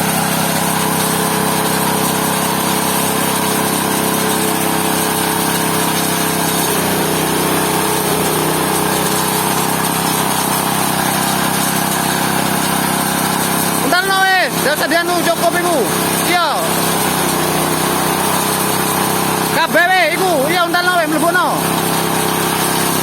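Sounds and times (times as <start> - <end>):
pulping machine grinding fruit: 0.0 - 23.0.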